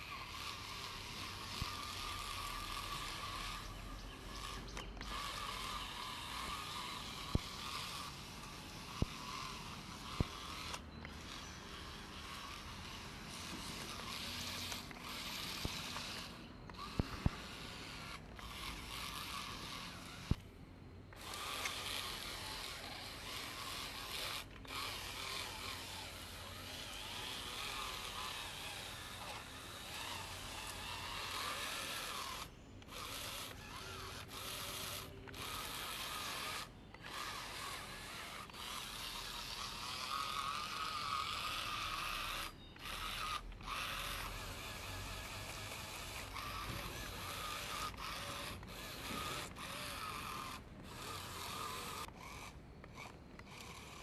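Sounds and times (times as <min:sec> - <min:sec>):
toy truck motor whirring: 0:00.0 - 0:54.0.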